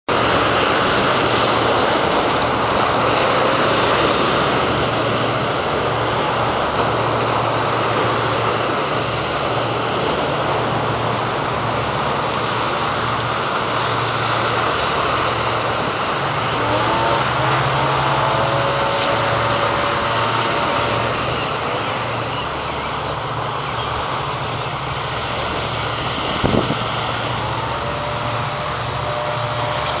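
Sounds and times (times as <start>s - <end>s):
waves washing on sandy beach: 0.1s - 30.0s.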